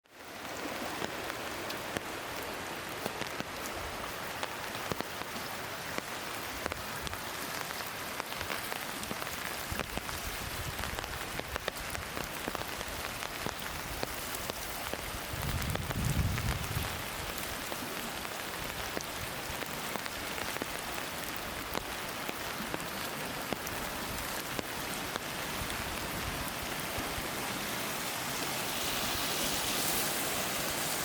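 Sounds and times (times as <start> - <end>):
waterfall splashing onto rock: 4.3 - 31.0.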